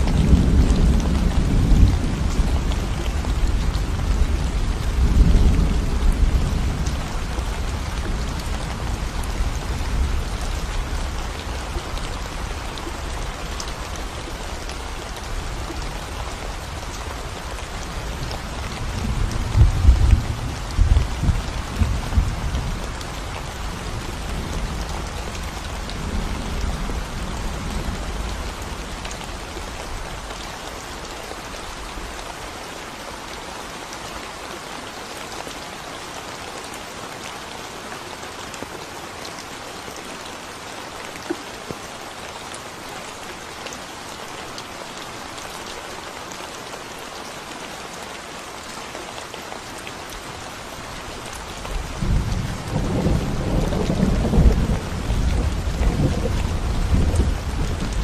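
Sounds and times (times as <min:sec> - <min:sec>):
rain on concrete road: 0:00.0 - 0:58.0.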